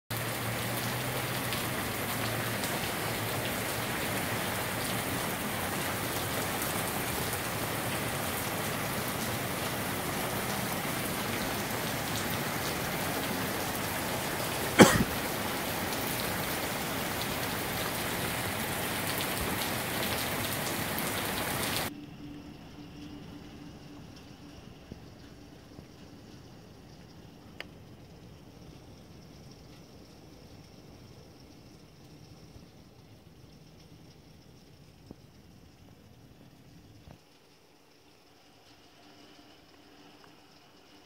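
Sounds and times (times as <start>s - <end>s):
rain on roofs and foliage: 0.1s - 41.0s.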